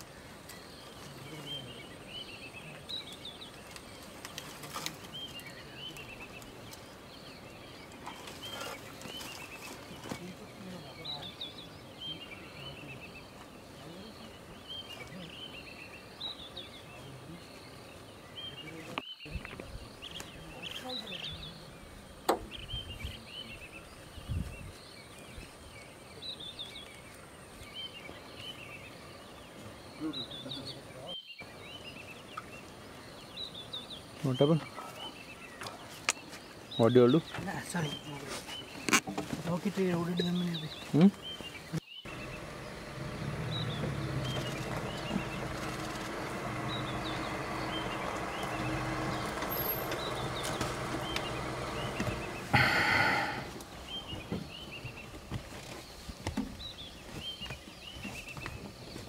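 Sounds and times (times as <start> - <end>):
bird singing: 0.0 - 59.0.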